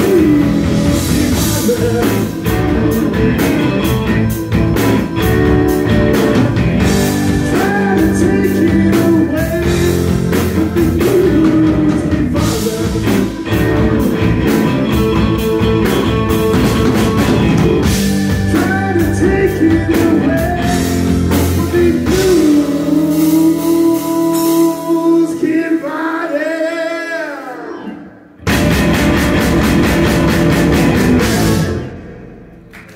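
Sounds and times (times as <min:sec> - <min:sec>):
electric guitar bending notes: 0:00.0 - 0:25.4, 0:27.6 - 0:32.9
blues-rock band playing: 0:00.0 - 0:25.8, 0:27.6 - 0:32.9.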